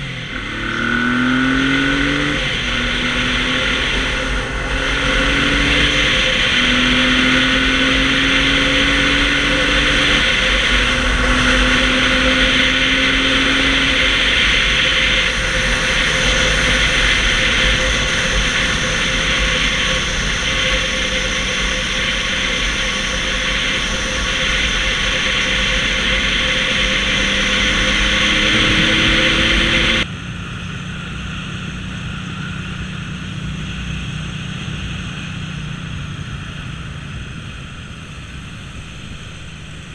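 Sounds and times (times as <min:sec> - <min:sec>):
heavy wind noise: 0:01.6 - 0:39.9.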